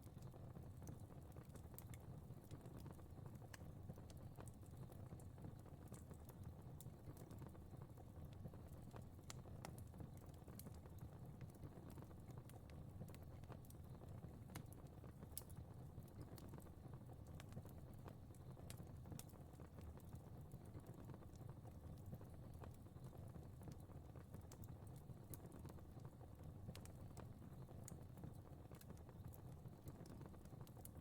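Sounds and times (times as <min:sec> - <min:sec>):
fire crackling faintly: 0:00.0 - 0:31.0.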